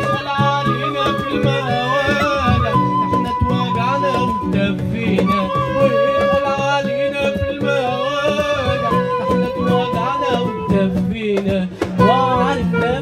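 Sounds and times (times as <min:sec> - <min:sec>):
acoustic ensemble playing melody: 0:00.0 - 0:13.0.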